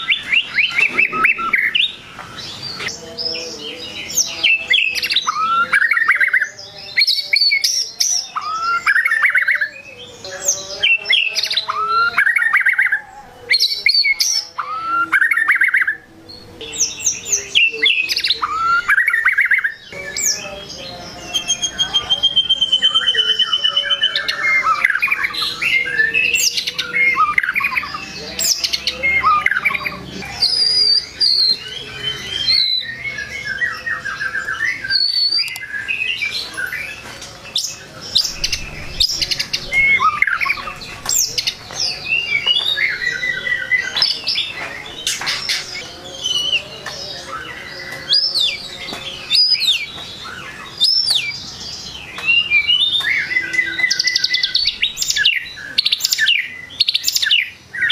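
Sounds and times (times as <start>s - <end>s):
bird singing varied song: 0.0s - 57.9s.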